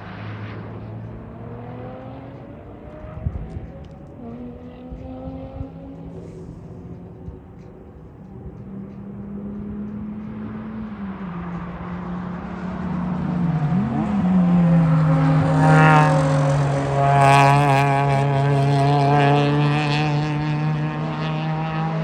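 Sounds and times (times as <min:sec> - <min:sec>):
sports car engine approaching: 0:00.0 - 0:22.0.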